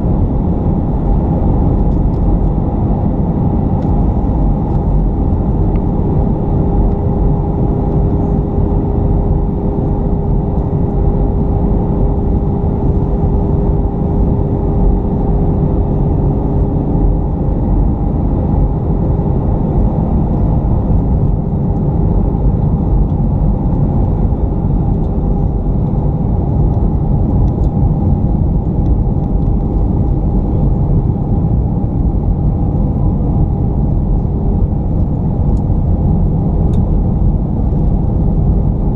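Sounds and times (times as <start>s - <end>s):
jet engine and airflow rush: 0.0s - 38.9s
steady cabin hum: 0.0s - 38.9s.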